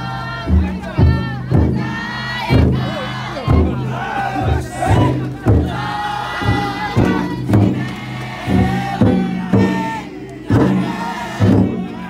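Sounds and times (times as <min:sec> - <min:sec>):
big drum beaten in steady rhythm: 0:00.0 - 0:12.0
crowd chanting together: 0:00.0 - 0:12.0.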